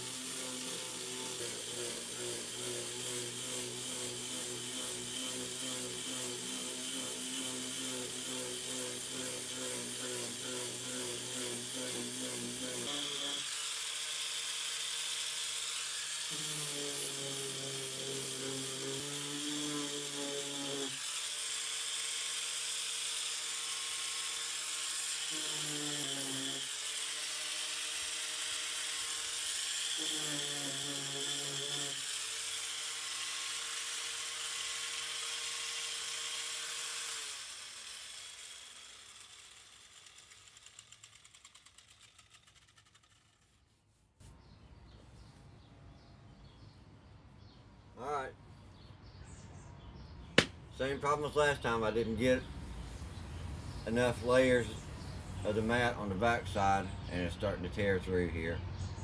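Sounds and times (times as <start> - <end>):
electric sander on fiberglass: 0.0 - 43.8, 50.4 - 56.8.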